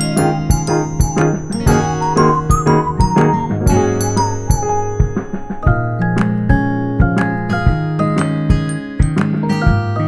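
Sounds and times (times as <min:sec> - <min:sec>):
bell-like notes: 0:00.0 - 0:09.1
steady bass: 0:00.0 - 0:10.0.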